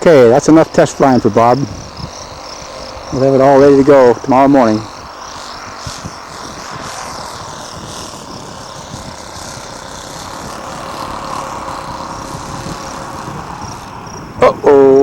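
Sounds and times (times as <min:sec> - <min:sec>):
model airplane engine droning: 0:00.0 - 0:15.0
wind hiss: 0:00.0 - 0:15.0.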